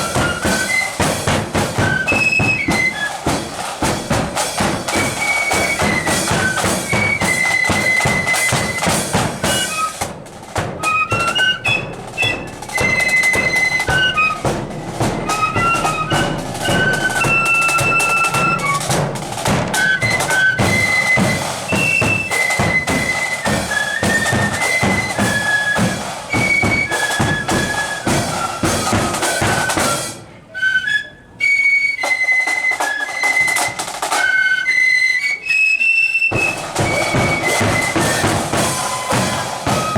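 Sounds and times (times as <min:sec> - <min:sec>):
snare and bass drums: 0:00.0 - 0:30.2, 0:36.3 - 0:39.9
flute band playing: 0:00.0 - 0:39.9.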